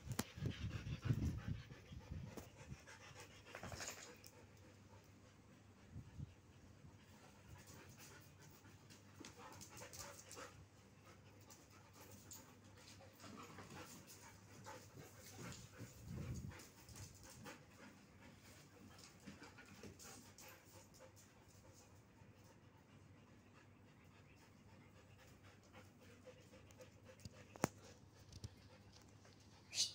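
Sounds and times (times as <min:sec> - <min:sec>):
dogs panting: 0:00.0 - 0:29.9.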